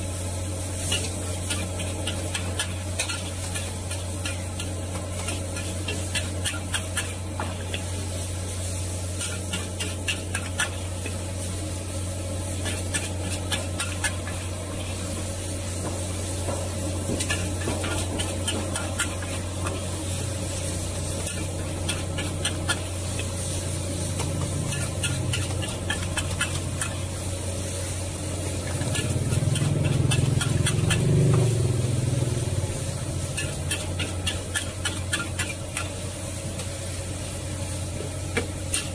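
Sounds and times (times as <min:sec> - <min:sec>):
food sizzling: 0:00.0 - 0:38.9
utensils scraping a wok: 0:00.6 - 0:31.9, 0:32.5 - 0:36.7, 0:38.0 - 0:38.9.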